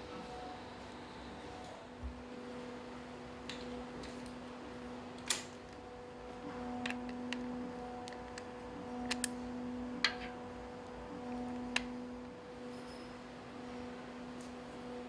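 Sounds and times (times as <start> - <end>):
humming drone: 0.0 - 15.0.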